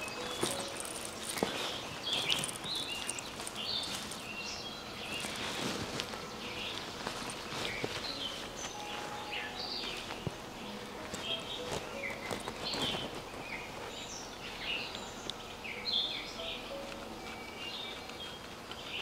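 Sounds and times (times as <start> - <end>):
banana leaves crackling: 0.0 - 15.6
birds chirping: 0.0 - 19.0.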